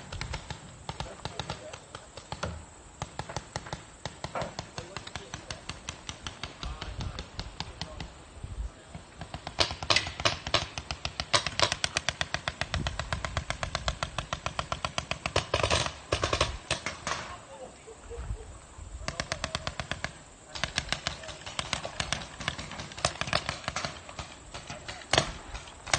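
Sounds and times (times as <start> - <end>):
paintball markers firing: 0.0 - 8.2, 8.9 - 17.4, 19.0 - 25.9.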